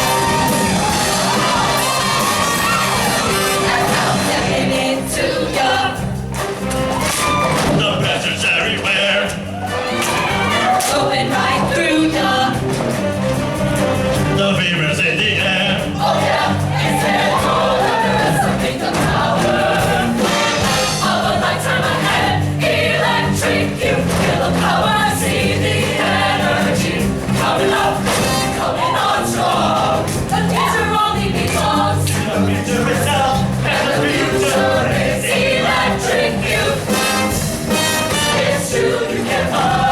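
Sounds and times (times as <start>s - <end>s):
choir singing with instruments: 0.0s - 39.9s.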